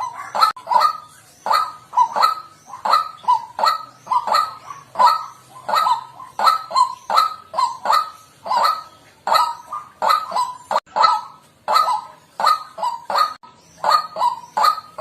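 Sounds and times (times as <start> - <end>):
waterhen honking calls: 0.0 - 15.0.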